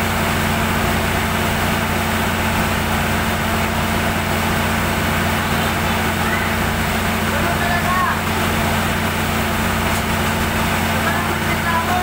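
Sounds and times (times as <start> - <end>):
diesel generator running: 0.0 - 12.0.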